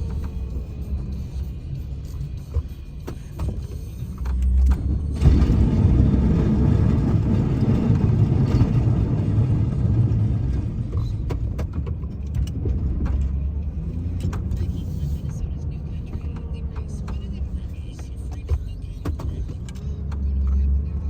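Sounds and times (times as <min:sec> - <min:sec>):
truck engine low rumble: 0:00.0 - 0:21.0.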